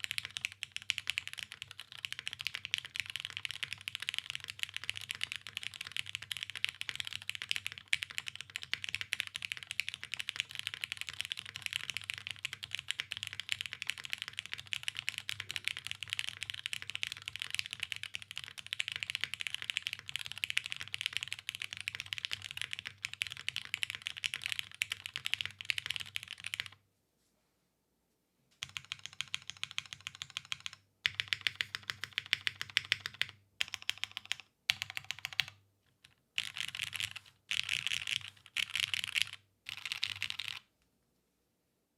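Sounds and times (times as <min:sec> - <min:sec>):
fast typing on mechanical keyboard: 0:00.0 - 0:26.8, 0:28.6 - 0:40.7.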